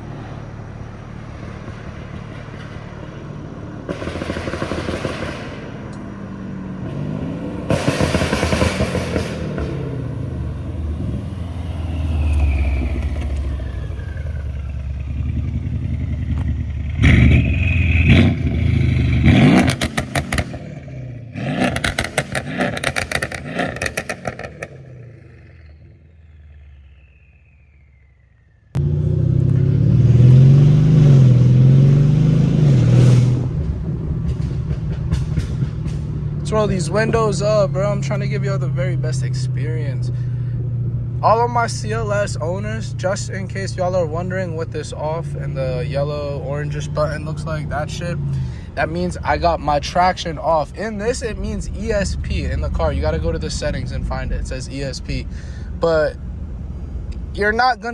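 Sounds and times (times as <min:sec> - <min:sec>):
car engine revving and passing: 0:00.0 - 0:57.9
exhaust crackles and pops: 0:03.8 - 0:30.4, 0:32.7 - 0:40.0, 0:41.0 - 0:57.9.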